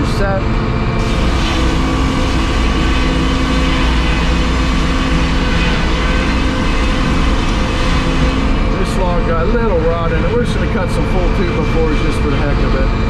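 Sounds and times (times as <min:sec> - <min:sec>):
steady machinery hums: 0:00.0 - 0:13.0
circular saw cutting log: 0:01.0 - 0:12.8.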